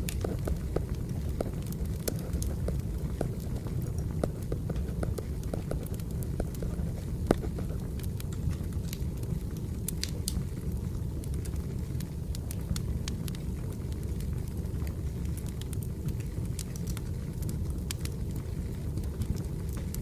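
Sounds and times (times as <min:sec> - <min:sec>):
fire crackles and snaps: 0:00.0 - 0:20.0
wood fire rumbling: 0:00.0 - 0:20.0.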